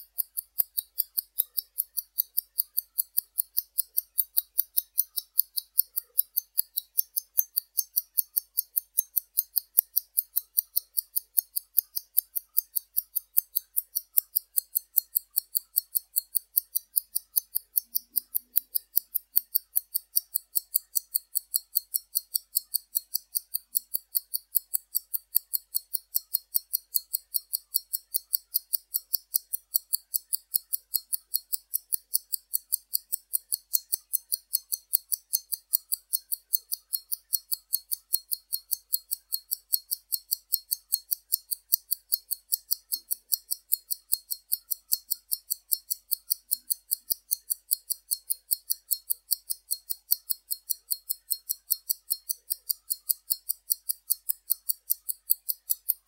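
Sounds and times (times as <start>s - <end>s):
wrist watch ticking: 0.0s - 56.0s.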